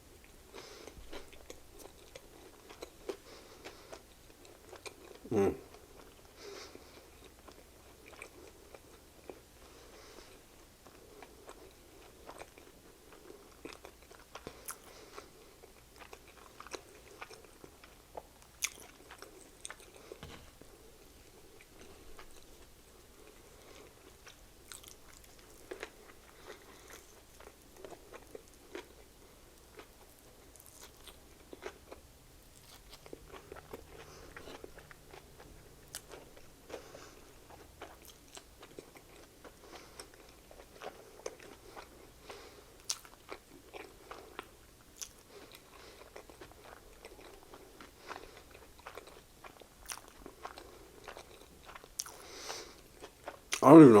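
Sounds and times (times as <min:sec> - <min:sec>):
person chewing a sandwich: 0:00.0 - 0:54.0.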